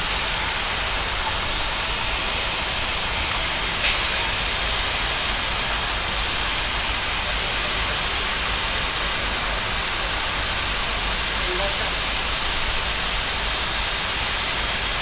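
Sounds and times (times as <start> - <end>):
aircraft and vehicle hiss: 0.0 - 15.0.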